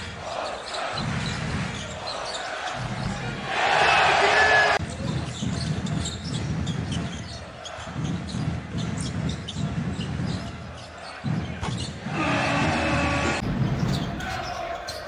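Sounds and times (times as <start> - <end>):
sneakers squeaking: 0.2 - 4.0, 4.8 - 15.0.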